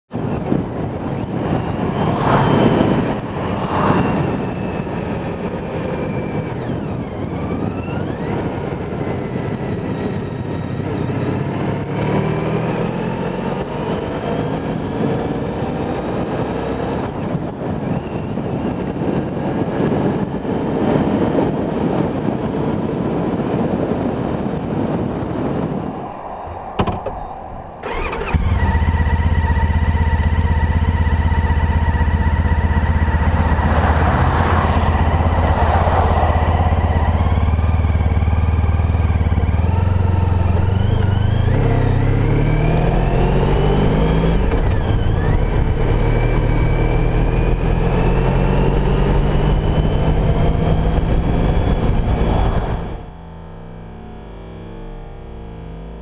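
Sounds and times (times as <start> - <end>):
wind rush on microphone: 0.1 - 55.4
motorcycle engine accelerating: 0.1 - 56.0.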